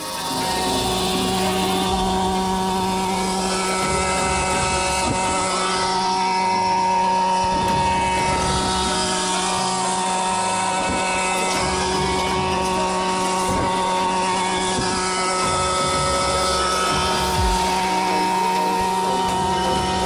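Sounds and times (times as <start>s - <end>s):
model helicopter hovering: 0.0s - 20.0s.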